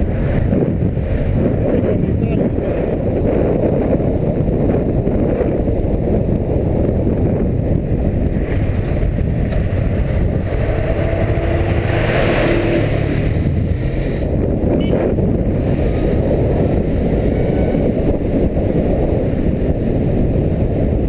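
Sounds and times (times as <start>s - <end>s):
motorcycle engine and road noise: 0.0s - 21.0s
wind rushing over microphone: 0.0s - 21.0s.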